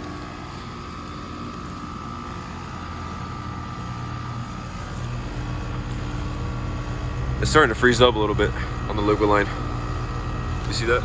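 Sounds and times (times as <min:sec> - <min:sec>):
compressor hum: 0:00.0 - 0:11.0
fan noise: 0:00.0 - 0:11.0
high whine: 0:00.0 - 0:11.0.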